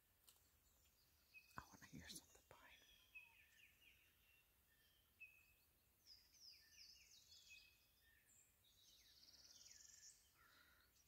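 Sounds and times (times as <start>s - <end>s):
songbirds chirping and whistling: 0.4s - 11.0s.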